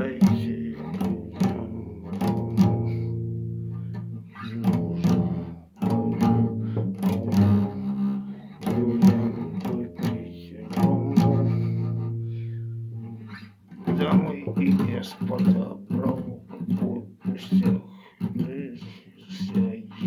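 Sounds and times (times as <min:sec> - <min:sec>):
strummed guitar chords: 0:00.0 - 0:20.0.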